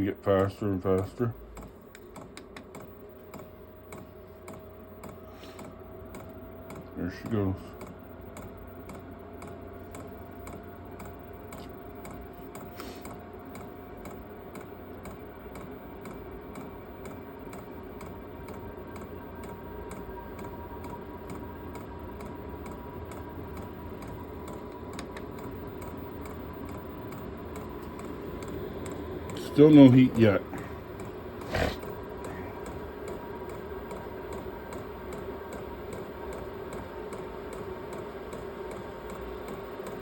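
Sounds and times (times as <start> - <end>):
blower fan whine rising: 0.0 - 40.0.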